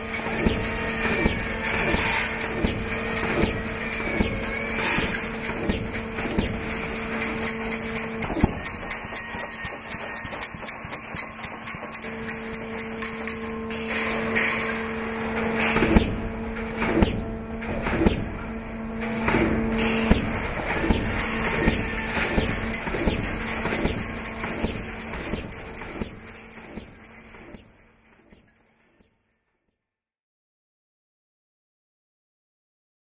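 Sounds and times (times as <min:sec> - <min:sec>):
machine hum: 0:00.0 - 0:28.8
metallic knocks and clanks: 0:00.0 - 0:29.1.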